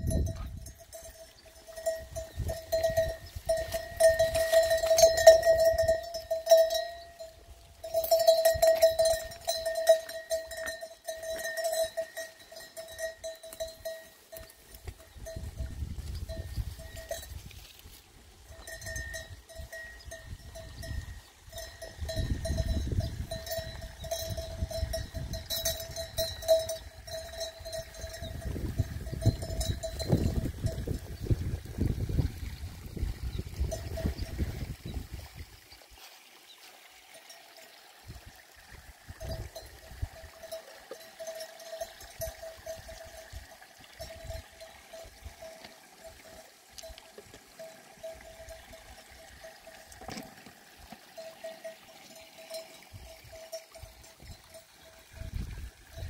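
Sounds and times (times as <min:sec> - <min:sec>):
livestock bells jangling: 0:00.0 - 0:32.0, 0:33.2 - 0:35.0, 0:39.0 - 0:56.0.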